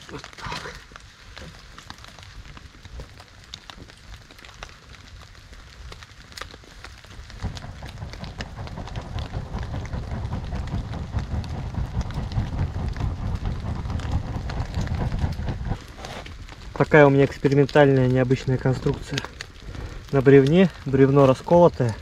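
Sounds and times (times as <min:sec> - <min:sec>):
fire crackling and popping: 0:00.0 - 0:22.0
patter of rain: 0:00.0 - 0:22.0
rumble of fire flames: 0:00.0 - 0:22.0.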